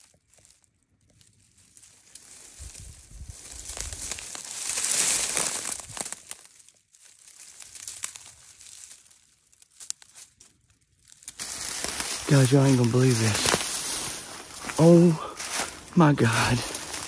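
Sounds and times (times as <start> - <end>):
dry weeds crunching and rustling: 0.0 - 17.0.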